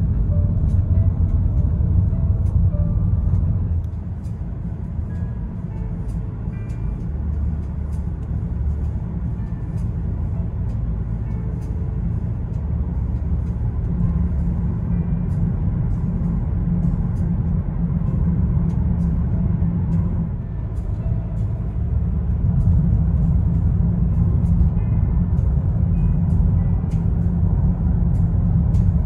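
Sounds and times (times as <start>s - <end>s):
road and tyre rumble: 0.0s - 29.0s.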